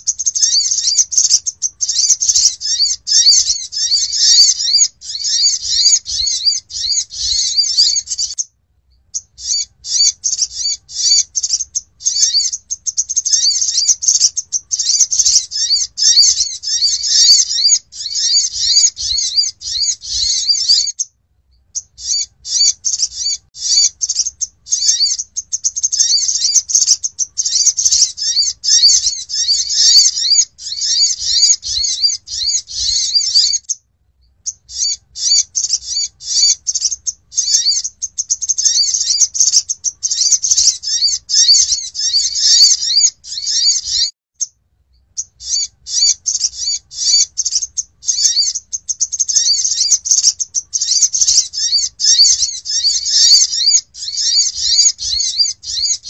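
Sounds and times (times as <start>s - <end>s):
sunbird rapid high chirps: 0.0s - 56.0s.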